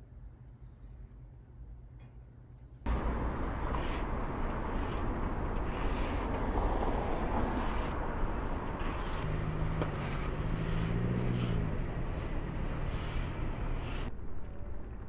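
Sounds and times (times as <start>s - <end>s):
low engine hum: 2.9s - 15.0s
traffic rumble: 2.9s - 15.0s.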